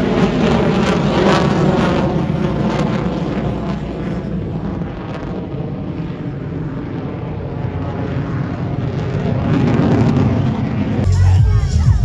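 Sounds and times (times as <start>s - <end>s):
jet aircraft rumble: 0.0s - 12.0s.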